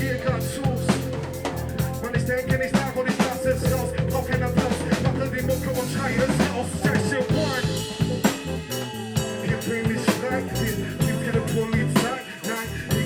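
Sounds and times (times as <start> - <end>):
bass: 0.0 - 13.0
drum kit steady beat: 0.0 - 13.0
held keyboard tone: 0.0 - 13.0.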